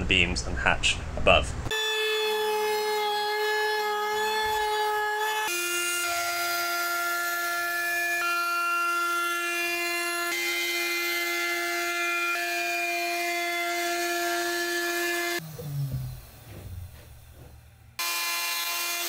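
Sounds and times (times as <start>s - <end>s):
router cutting wood: 1.7s - 17.2s, 18.0s - 19.0s.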